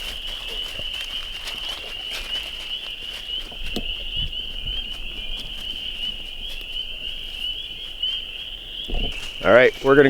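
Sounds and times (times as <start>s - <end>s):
spring peepers chorus: 0.0s - 10.0s.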